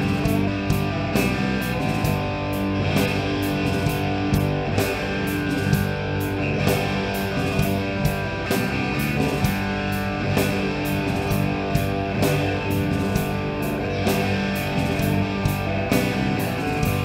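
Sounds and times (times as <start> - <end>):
electric guitar: 0.0 - 17.0
steady drum beat: 0.0 - 17.0.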